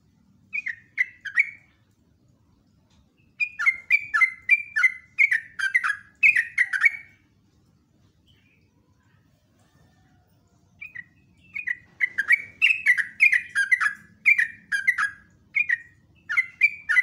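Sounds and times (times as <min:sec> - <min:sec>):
bird chirping: 0:00.4 - 0:02.0, 0:02.6 - 0:17.0.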